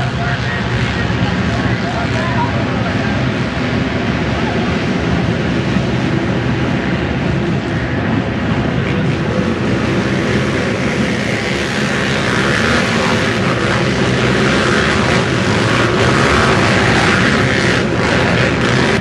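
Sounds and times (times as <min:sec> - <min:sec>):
racing quads engines roaring: 0:00.0 - 0:19.0.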